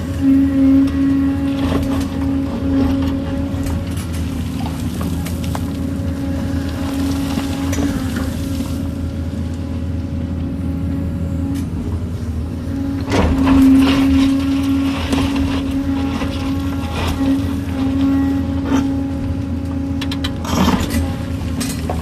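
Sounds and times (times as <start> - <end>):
excavator clatter: 0.0 - 10.6, 11.4 - 22.0
excavator engine drone: 0.0 - 22.0.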